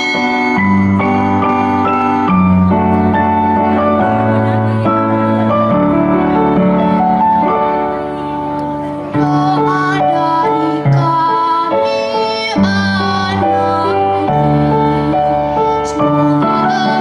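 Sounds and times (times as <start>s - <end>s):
slow ballad on electronic keyboard: 0.0s - 17.0s.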